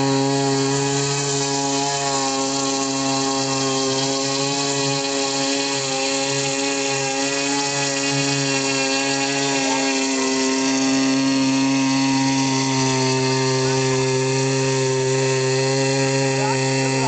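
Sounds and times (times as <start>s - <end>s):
model airboat motor and propeller: 0.0s - 17.0s.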